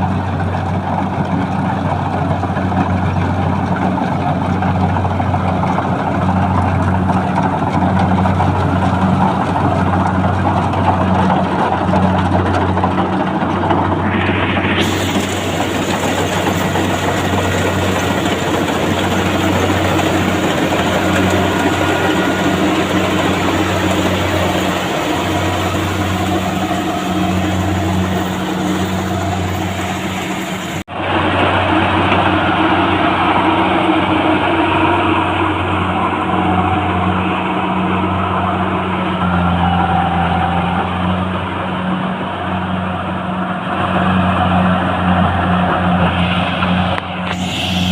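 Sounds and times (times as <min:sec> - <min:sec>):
tractor engine drone: 0:00.0 - 0:47.9.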